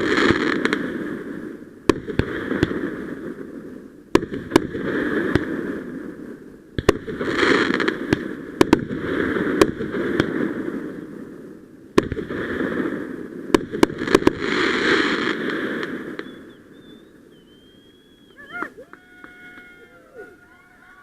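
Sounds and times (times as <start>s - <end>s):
crackling hiss of fireworks: 0.0s - 21.0s
fireworks bangs: 0.0s - 21.0s.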